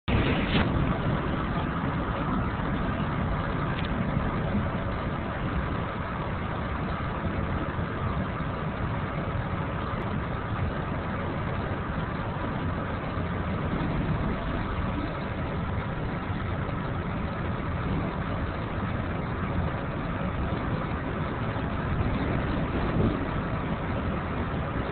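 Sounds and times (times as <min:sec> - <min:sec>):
passenger train rumbling: 0:00.0 - 0:24.9.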